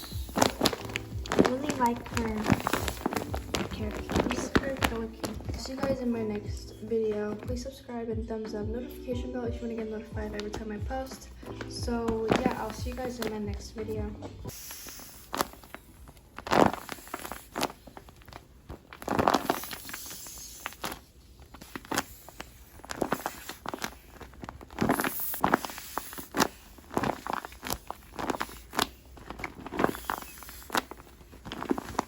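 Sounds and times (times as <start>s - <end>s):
handling noise clicks and rustles: 0.0s - 6.5s, 10.3s - 32.0s.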